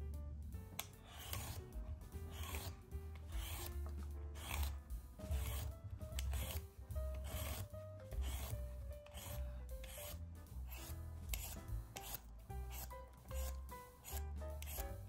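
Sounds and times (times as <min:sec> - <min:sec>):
soft background music: 0:00.0 - 0:15.0
peeler scraping cucumber skin: 0:00.7 - 0:15.0.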